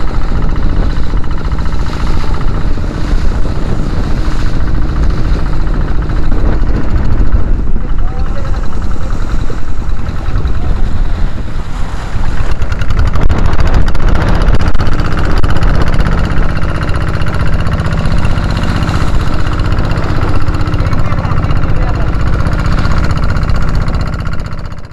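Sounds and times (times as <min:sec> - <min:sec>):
outboard motor running: 0:00.0 - 0:24.9
water splashing along hull: 0:00.0 - 0:24.9.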